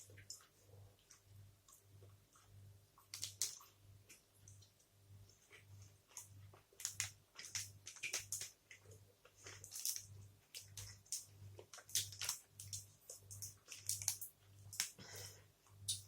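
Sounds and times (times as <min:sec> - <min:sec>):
mouth chewing with wet clicks: 0:00.2 - 0:15.0.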